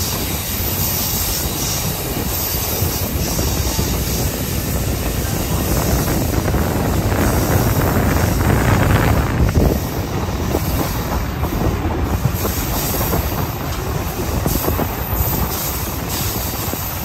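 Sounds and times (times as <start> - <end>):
train wheels clacking over track: 0.0 - 17.0.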